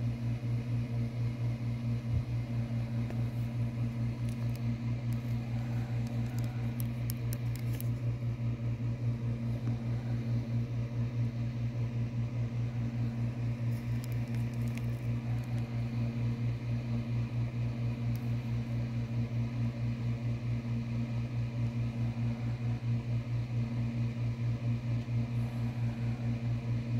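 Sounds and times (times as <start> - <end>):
low pulsing mechanical hum: 0.0 - 26.9.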